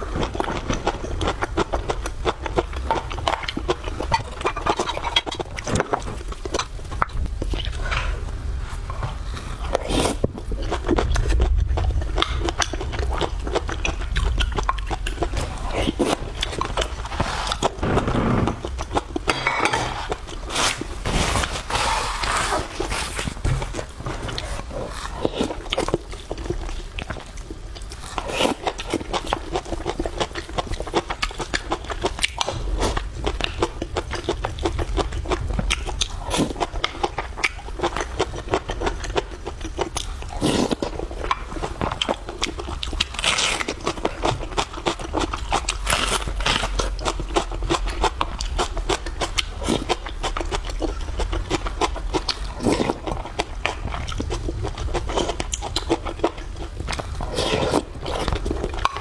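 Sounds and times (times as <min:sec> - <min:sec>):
person chewing and lip-smacking: 0:00.0 - 0:08.2, 0:08.9 - 0:17.8, 0:21.8 - 0:59.0.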